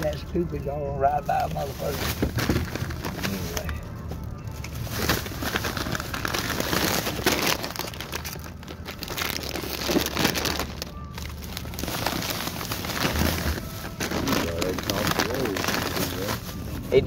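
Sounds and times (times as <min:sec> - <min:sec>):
low truck rumble: 0:00.0 - 0:17.0
plastic snack bag crinkling: 0:01.2 - 0:17.0.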